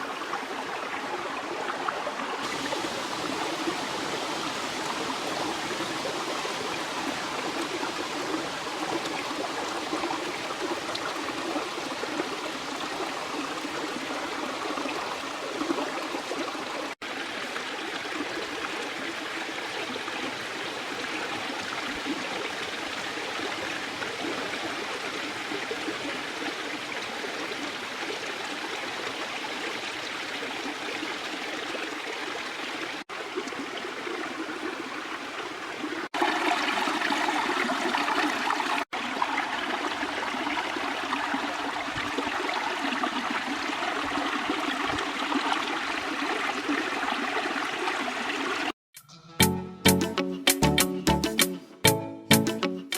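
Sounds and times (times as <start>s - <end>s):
flowing stream rushing: 0.0s - 48.8s.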